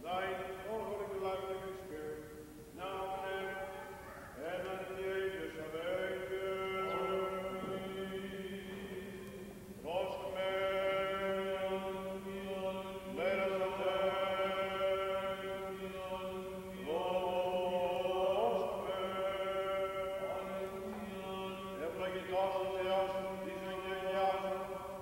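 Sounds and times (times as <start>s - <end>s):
person singing chant: 0.0s - 25.0s
steady low hum: 0.0s - 25.0s.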